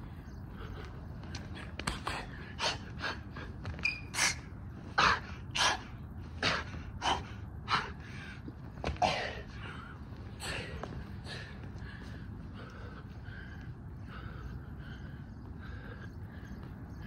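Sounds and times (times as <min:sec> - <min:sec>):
man panting and gasping: 0:00.0 - 0:17.0.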